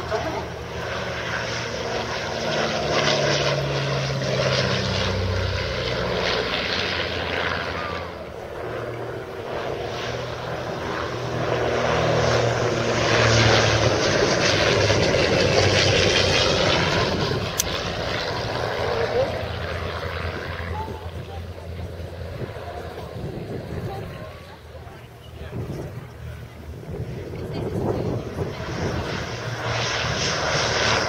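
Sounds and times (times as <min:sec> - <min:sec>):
biplane engines droning: 0:00.0 - 0:31.0.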